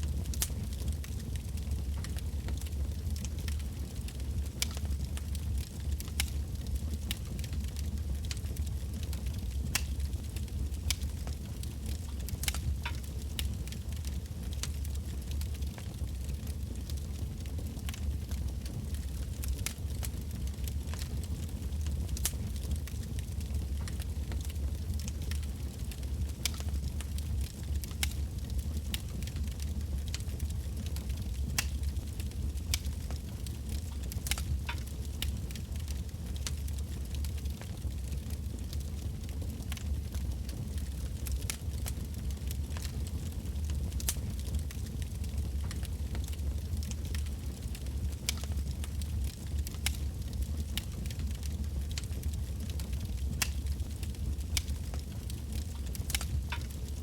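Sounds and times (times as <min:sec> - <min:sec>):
flames rumbling: 0:00.0 - 0:57.0
logs crackling and popping: 0:00.0 - 0:57.0.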